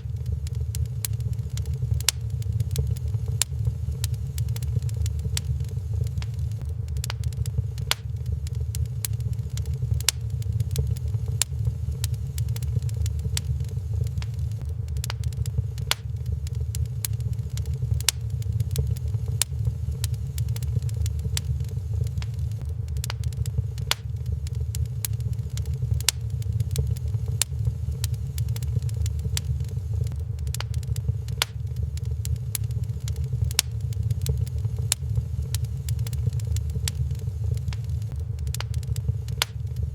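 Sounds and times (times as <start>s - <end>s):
wood fire crackling in fireplace: 0.0s - 39.9s.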